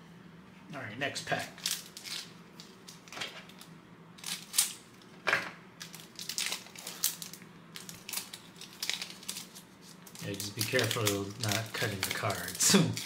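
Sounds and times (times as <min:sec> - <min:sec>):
foil wrapper crinkling: 0:01.4 - 0:04.8, 0:05.8 - 0:13.0.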